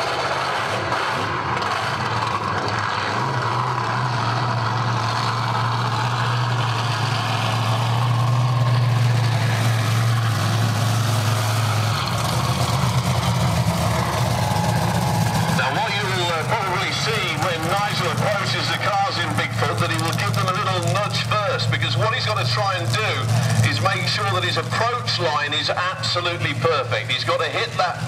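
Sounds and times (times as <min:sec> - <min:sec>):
large engine droning: 0:00.0 - 0:28.0.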